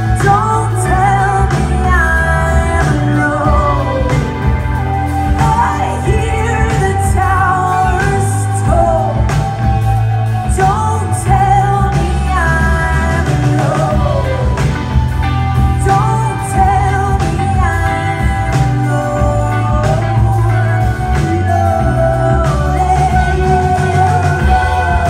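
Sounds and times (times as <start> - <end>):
bass guitar: 0.0 - 25.0
drums: 0.0 - 25.0
electric guitar: 0.0 - 25.0
woman singing into microphone: 0.0 - 25.0.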